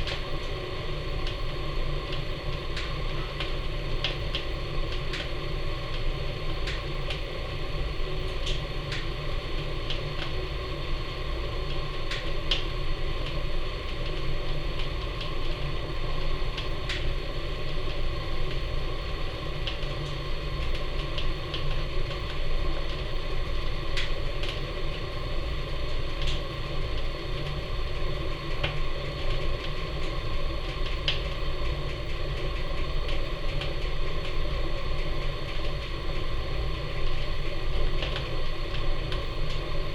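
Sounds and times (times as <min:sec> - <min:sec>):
fire roaring in a furnace: 0:00.0 - 0:39.9.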